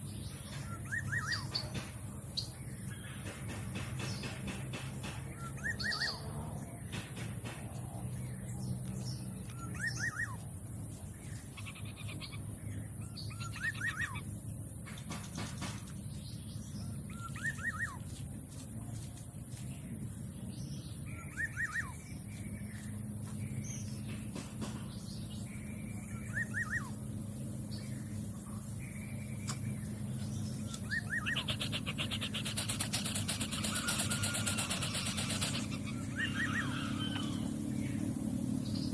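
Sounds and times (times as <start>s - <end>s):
bird chirping: 0.0s - 4.4s, 5.2s - 7.0s, 7.8s - 14.4s, 15.6s - 18.4s, 19.9s - 38.9s
low background hum: 0.0s - 38.9s.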